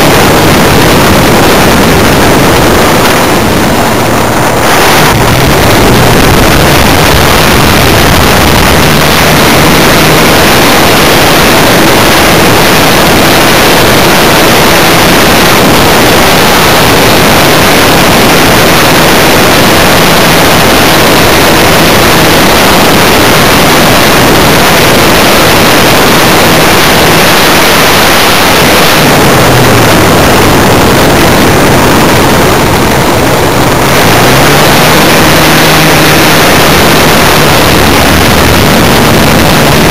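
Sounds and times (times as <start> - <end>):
model plane engine: 0.0 - 39.9
wind and propeller rush: 0.0 - 39.9.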